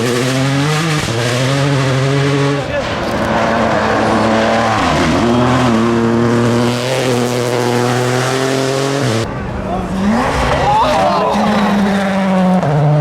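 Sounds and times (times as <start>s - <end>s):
rally car engine revving high: 0.0s - 13.0s.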